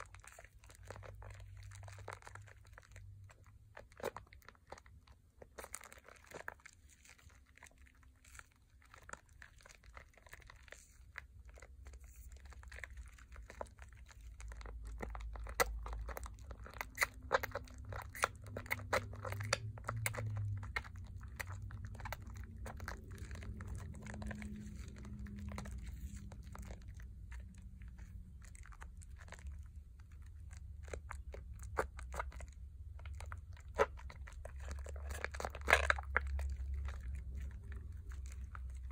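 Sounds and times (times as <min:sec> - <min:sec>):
soap lather squishing: 0:00.0 - 0:38.9.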